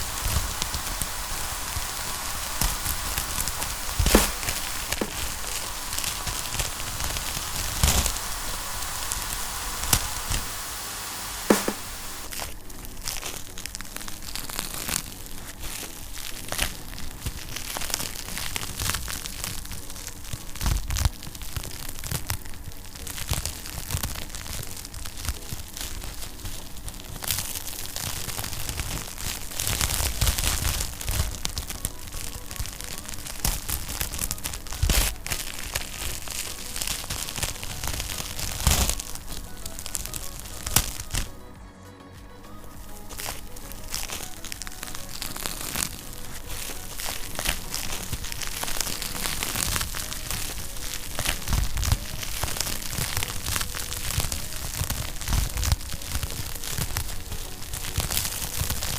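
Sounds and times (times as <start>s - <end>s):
wood fire crackling and popping: 0.0s - 41.5s, 42.8s - 58.9s
soft hiss: 0.0s - 58.9s.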